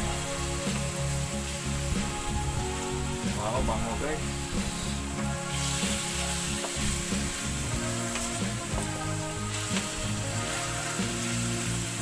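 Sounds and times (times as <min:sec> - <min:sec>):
garlic and onion sizzling in oil: 0:00.0 - 0:12.0
wooden spatula scraping wok: 0:00.0 - 0:12.0.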